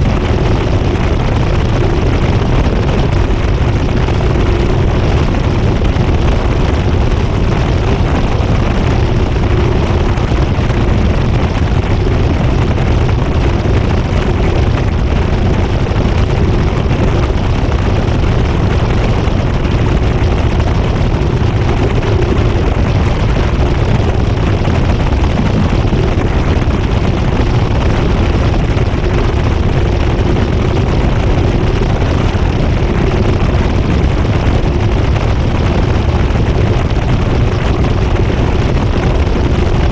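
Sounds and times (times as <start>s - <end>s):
washing machine spin rumble: 0.0s - 39.9s.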